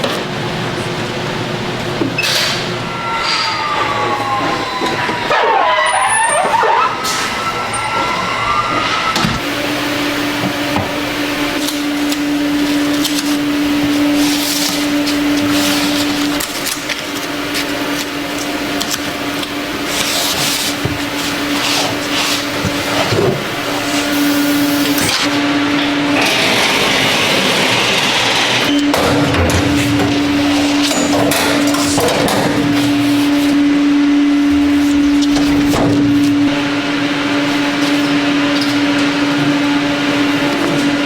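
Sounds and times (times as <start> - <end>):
machinery running: 0.0 - 41.0.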